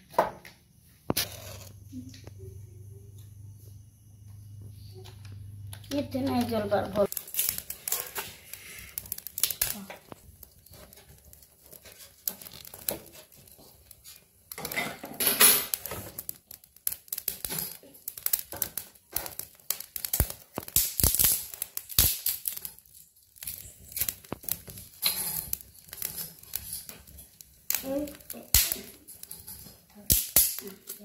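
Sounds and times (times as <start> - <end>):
fire crackling and popping: 0.1 - 3.6, 4.3 - 31.0.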